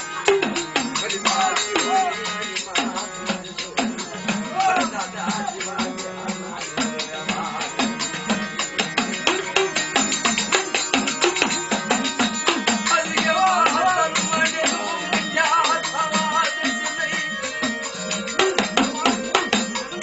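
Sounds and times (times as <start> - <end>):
fast drum rhythm: 0.0 - 20.0
jingling percussion: 0.0 - 20.0.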